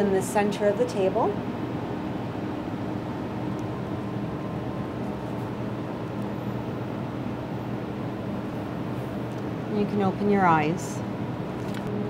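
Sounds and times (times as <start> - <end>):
scanner machine hum and whir: 0.0 - 12.0.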